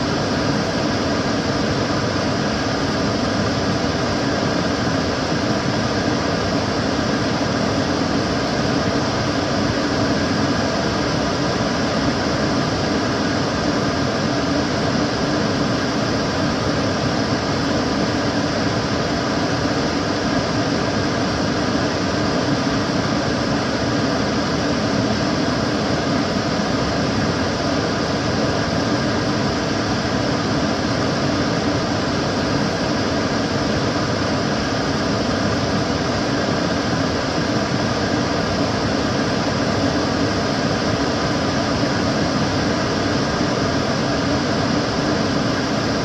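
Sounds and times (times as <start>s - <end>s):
extractor fan running: 0.0s - 46.0s.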